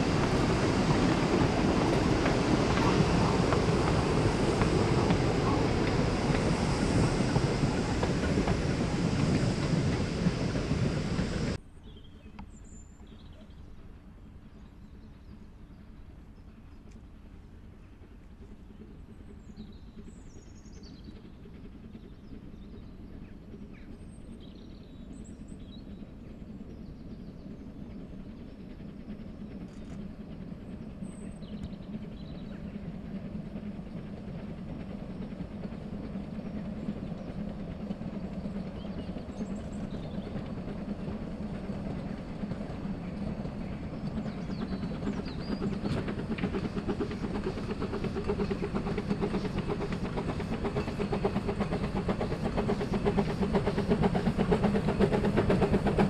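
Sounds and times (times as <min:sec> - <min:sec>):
steam locomotive rumbling: 0:00.0 - 0:56.0.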